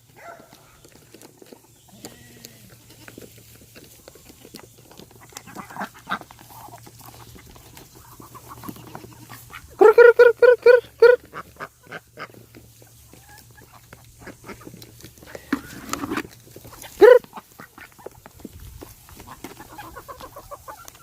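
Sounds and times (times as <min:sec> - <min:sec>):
farm animals making short rapid calls: 0:00.2 - 0:18.2, 0:18.9 - 0:21.0.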